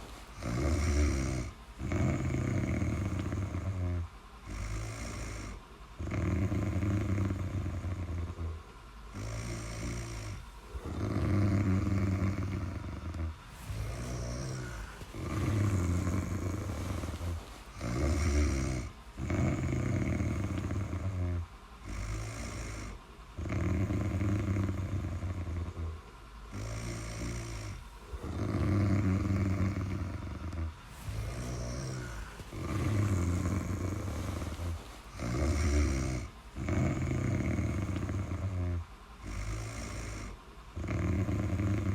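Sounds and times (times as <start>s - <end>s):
loud low snoring: 0.0s - 41.9s
soft breathing: 0.0s - 41.9s.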